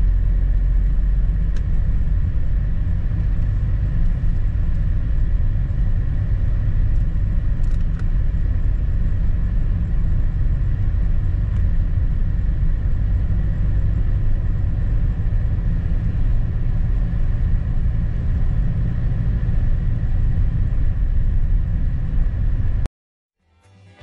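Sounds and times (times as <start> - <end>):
car engine and tyre rumble: 0.0 - 22.9.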